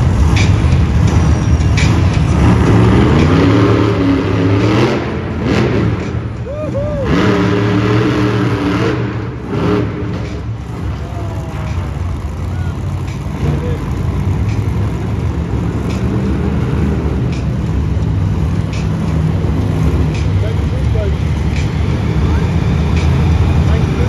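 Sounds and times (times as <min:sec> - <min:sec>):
monster truck engine running: 0:00.0 - 0:24.0.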